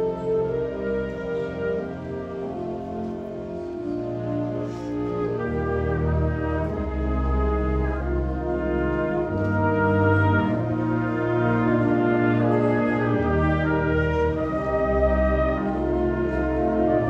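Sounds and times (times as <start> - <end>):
wind band playing slow chords: 0.0 - 17.0.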